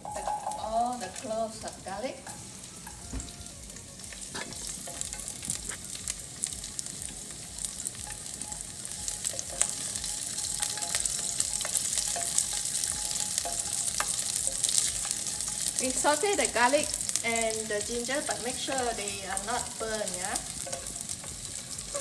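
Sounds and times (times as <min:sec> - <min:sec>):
garlic sizzling in hot oil: 0:00.0 - 0:22.0
sharp crackling pops: 0:00.0 - 0:22.0.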